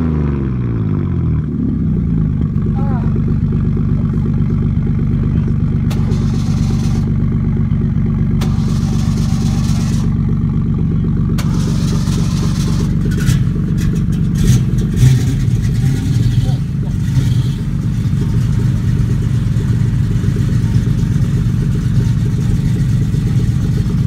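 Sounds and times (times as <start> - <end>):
car engine idling: 0.5 - 24.0.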